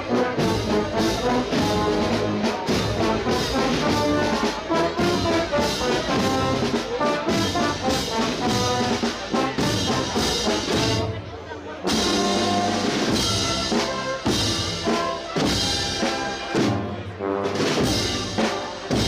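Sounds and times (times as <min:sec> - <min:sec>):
brass band playing a march: 0:00.0 - 0:19.0.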